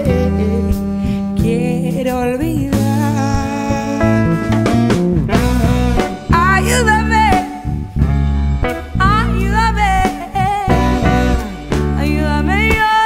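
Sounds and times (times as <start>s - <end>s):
bending melodic lead line: 0.0s - 13.0s
drums: 0.0s - 13.0s
electric bass: 0.0s - 13.0s
electric guitar: 0.0s - 13.0s.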